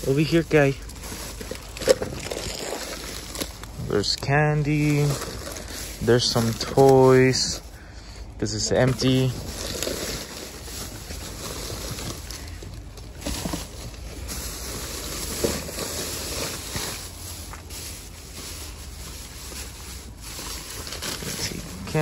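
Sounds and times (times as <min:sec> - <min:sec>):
plastic bags rustling: 0:00.0 - 0:22.0.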